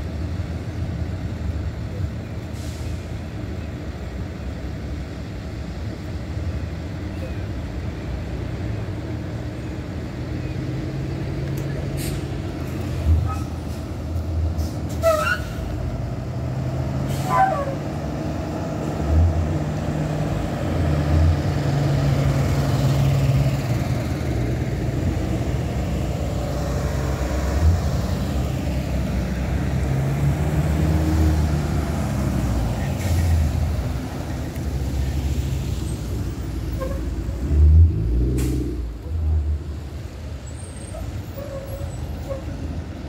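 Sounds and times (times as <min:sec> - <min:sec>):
bus engines rumbling past: 0:00.0 - 0:43.0.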